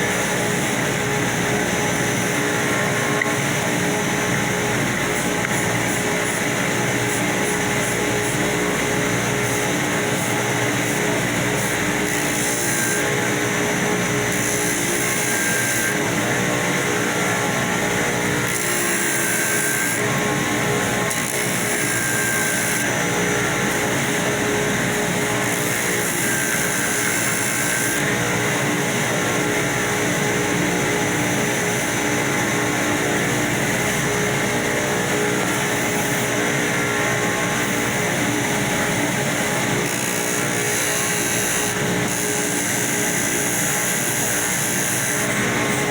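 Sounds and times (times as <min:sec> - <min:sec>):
electric sander running: 0:00.0 - 0:45.9.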